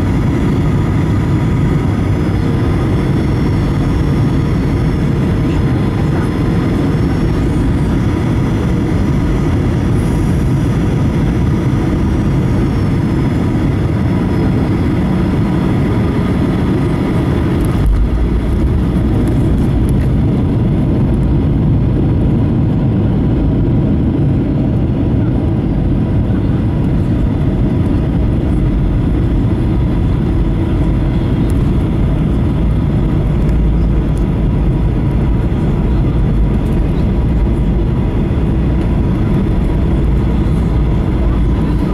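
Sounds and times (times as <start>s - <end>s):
jet engine whine: 0.0s - 41.9s
wheels rumbling on runway: 0.0s - 41.9s.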